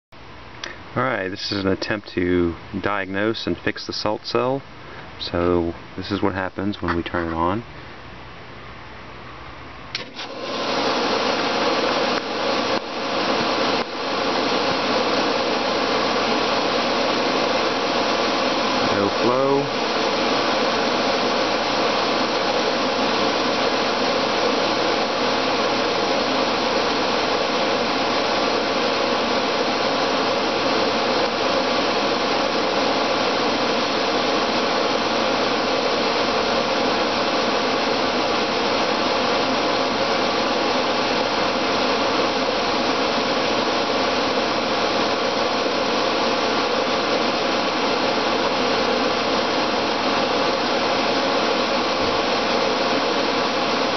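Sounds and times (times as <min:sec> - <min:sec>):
pool pump motor whirring: 0:09.4 - 0:53.9.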